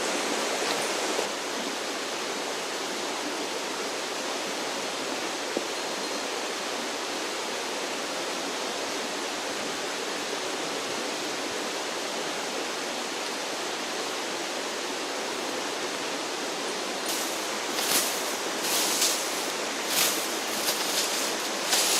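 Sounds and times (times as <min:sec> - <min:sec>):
stream water rushing: 0:00.0 - 0:21.9.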